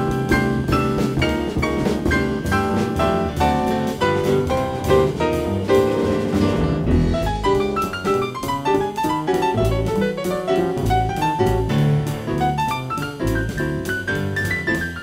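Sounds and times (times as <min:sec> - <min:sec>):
drums: 0:00.0 - 0:15.0
piano: 0:00.0 - 0:15.0
plucked double bass: 0:00.0 - 0:15.0.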